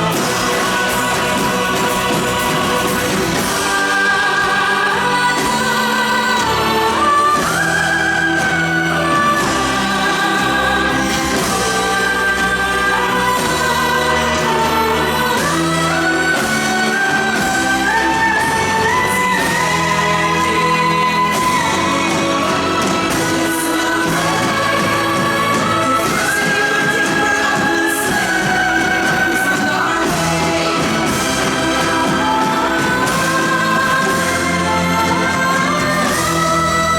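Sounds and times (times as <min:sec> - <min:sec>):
musical backing: 0:00.0 - 0:36.9
voices singing held notes: 0:00.0 - 0:36.9.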